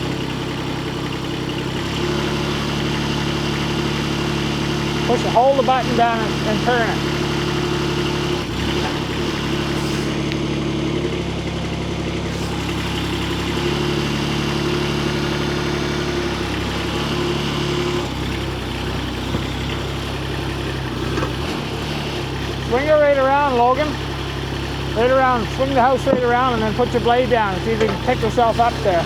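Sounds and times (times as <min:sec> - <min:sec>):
mini excavator engine running: 0:00.0 - 0:29.0.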